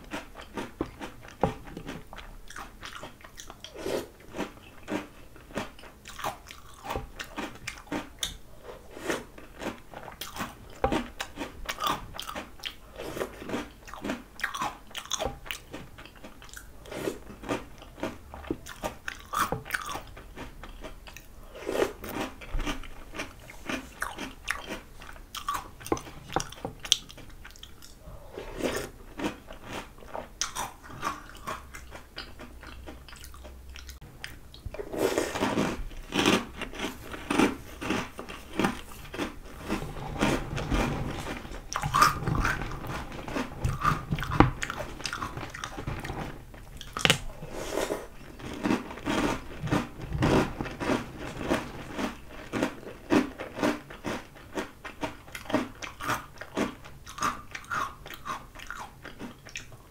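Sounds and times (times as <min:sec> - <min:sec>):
chewing crunchy cereal: 0:00.0 - 0:59.9.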